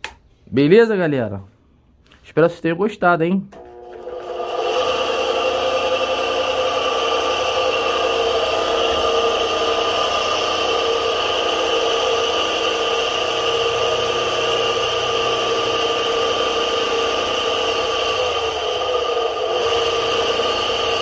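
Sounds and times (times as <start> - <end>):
electric motor whining: 3.6 - 21.0.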